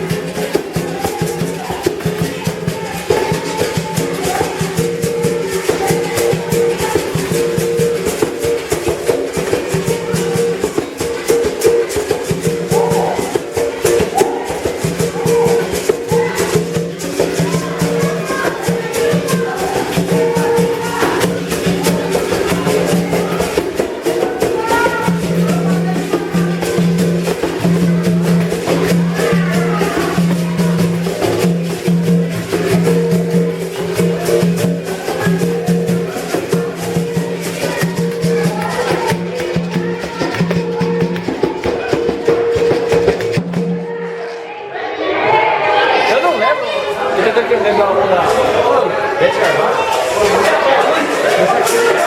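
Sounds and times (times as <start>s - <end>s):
shaken rattle: 0.0s - 43.7s, 49.3s - 52.0s
berimbau string struck rhythmically: 0.0s - 44.2s.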